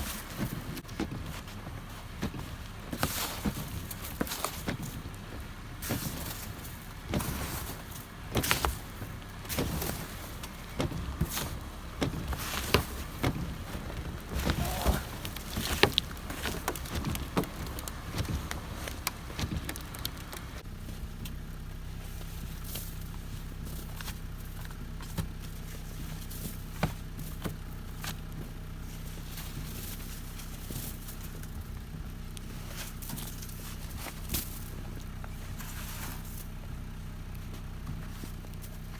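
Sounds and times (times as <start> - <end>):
ice scraping and crunching: 0.0 - 38.9
steady low hum: 0.0 - 38.9.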